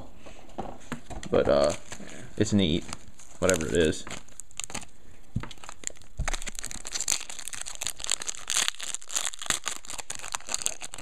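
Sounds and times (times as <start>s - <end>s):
cards being handled: 0.9s - 11.0s
card pack wrappers crinkling: 1.5s - 11.0s.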